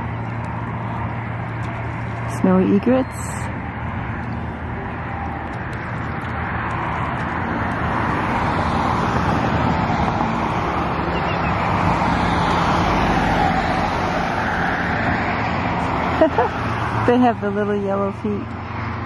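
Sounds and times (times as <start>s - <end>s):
road traffic tyres rushing: 0.0s - 19.0s.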